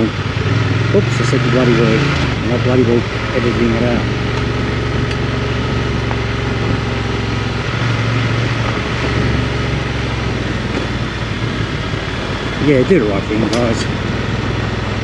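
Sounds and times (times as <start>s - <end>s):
motorcycle engine running: 0.0s - 15.0s
road noise: 0.0s - 15.0s
wind noise: 0.0s - 15.0s.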